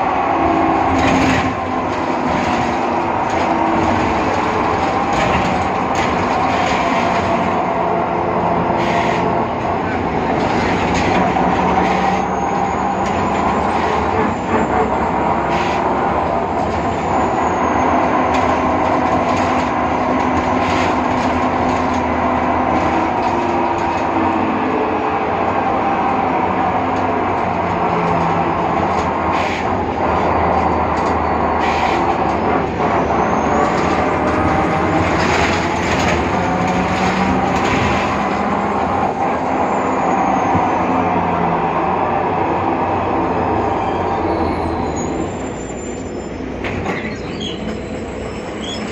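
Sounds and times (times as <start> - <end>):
bus drive noise: 0.0 - 48.9.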